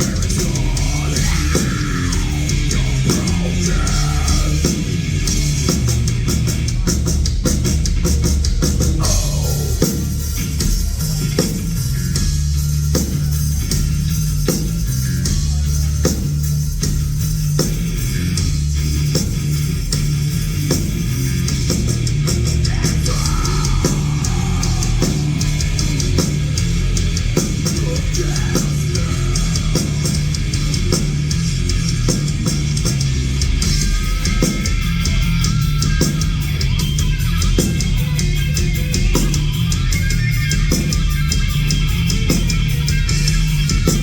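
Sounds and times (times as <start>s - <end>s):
heavy metal band playing: 0.0s - 44.0s.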